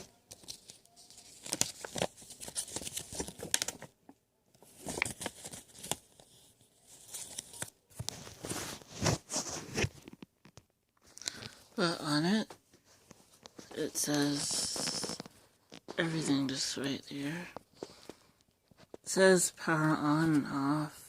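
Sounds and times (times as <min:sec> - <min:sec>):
paper rustling and crinkling: 0:00.0 - 0:11.7, 0:12.3 - 0:16.7, 0:17.5 - 0:19.2.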